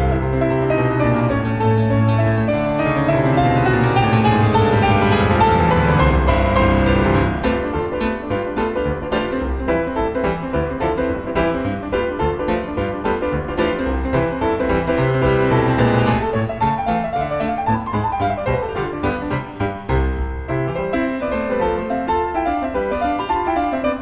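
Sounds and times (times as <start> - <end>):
fast piano music: 0.0 - 24.0.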